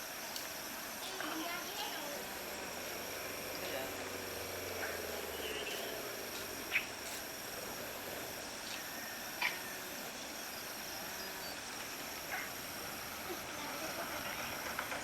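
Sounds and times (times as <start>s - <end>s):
high insect trilling: 0.4s - 14.7s.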